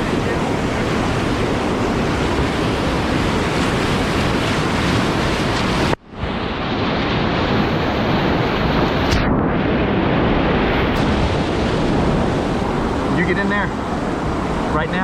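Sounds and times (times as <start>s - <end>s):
whitewater rapid roaring: 0.0s - 9.2s, 10.0s - 15.0s.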